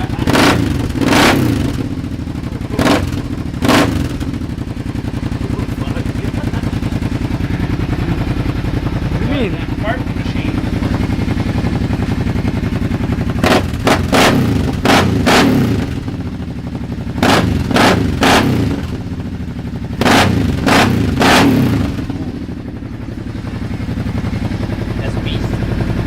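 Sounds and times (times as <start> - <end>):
engine idling: 0.0 - 26.0
engine throttle blips: 0.0 - 26.0.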